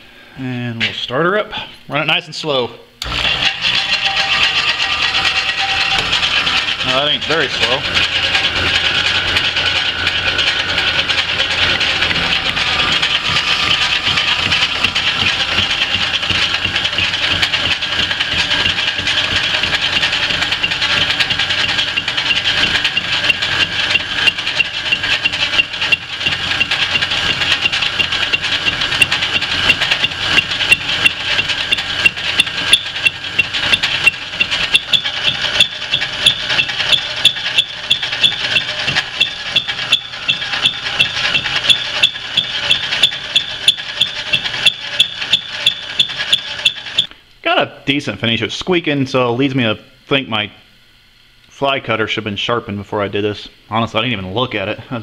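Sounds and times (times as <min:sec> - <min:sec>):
cutter striking metal ticks: 0:03.0 - 0:47.1
high-pitched cutter squeal: 0:03.0 - 0:47.1
lathe running: 0:03.0 - 0:47.2.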